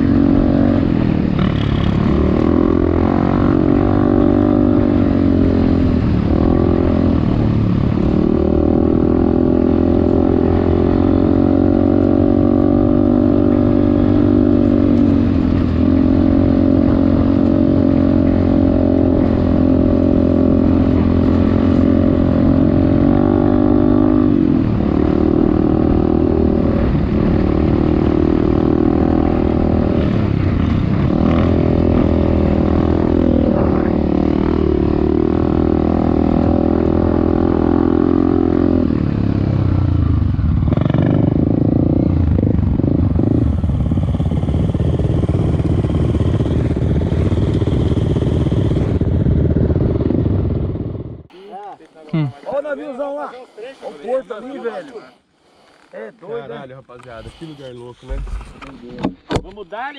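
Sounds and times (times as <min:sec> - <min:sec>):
dirt bike engine revving: 0:00.0 - 0:51.5.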